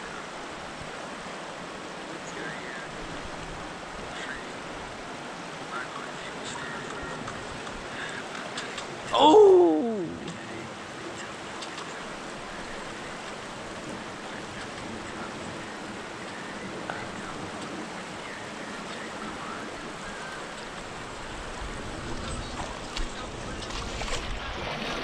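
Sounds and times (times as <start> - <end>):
creek water rushing over rocks: 0.0 - 25.0.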